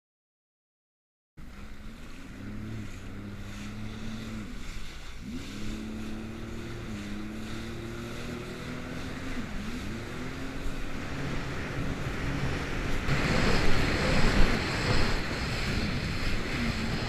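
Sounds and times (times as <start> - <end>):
jet ski engine: 1.4 - 17.0
wind and water hiss: 1.4 - 17.0.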